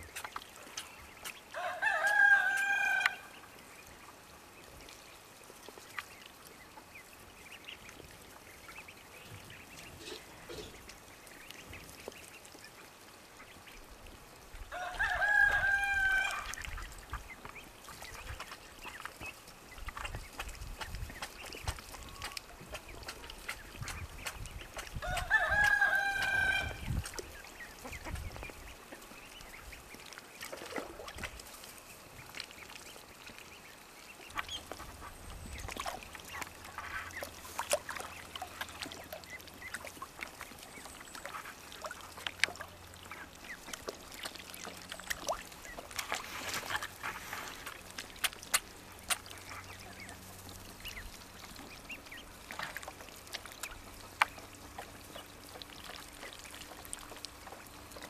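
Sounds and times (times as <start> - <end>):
ducklings splashing in water: 0.0 - 58.0.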